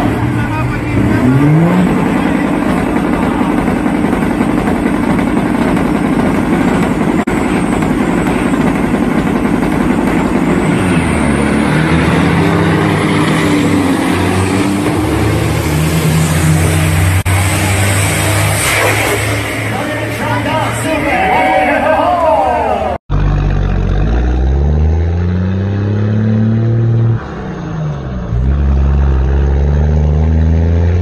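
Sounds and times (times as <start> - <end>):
truck diesel engines revving: 0.0 - 31.0.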